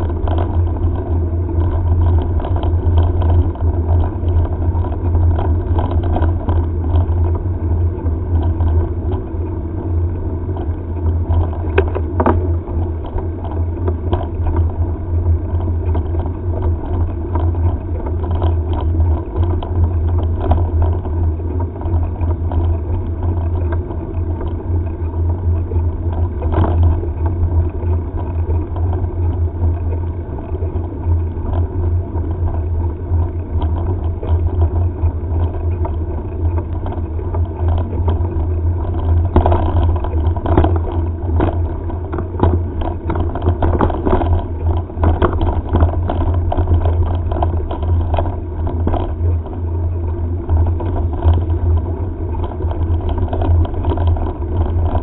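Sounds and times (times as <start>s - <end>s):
bike tyre noise: 0.0s - 55.0s
wind rumble on microphone: 0.0s - 55.0s.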